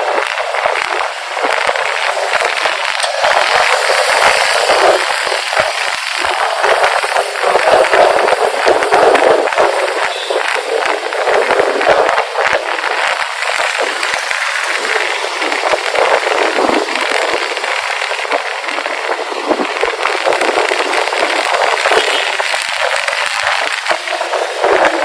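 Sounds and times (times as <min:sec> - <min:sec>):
road noise: 0:00.0 - 0:25.0
wind buffeting microphone: 0:00.0 - 0:25.0.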